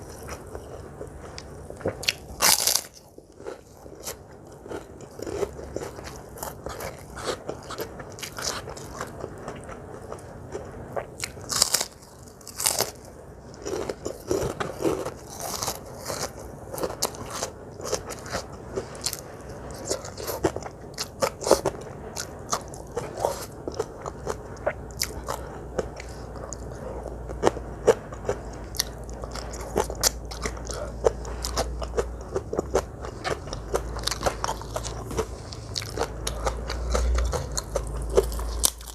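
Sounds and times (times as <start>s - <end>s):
crunchy bites and chewing: 0.0s - 9.8s, 11.0s - 38.9s.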